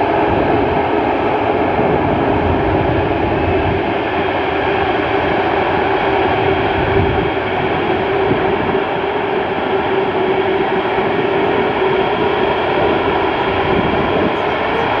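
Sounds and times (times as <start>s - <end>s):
jet engines roaring at taxi power: 0.0s - 15.0s.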